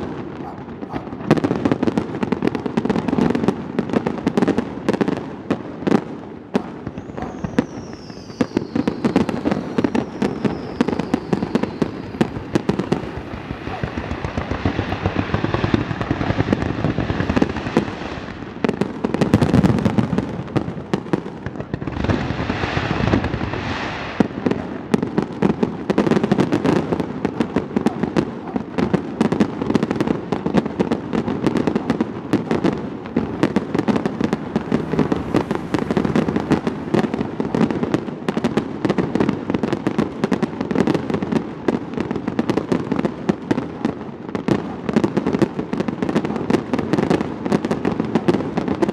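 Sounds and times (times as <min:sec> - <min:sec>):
fireworks bursting and crackling: 0:00.0 - 0:48.9
heavy firework booms: 0:00.0 - 0:48.9.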